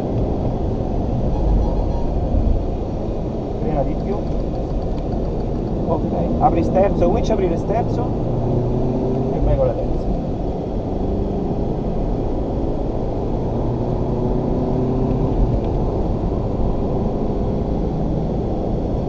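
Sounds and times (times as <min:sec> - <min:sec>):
car engine and tyre drone: 0:00.0 - 0:19.0.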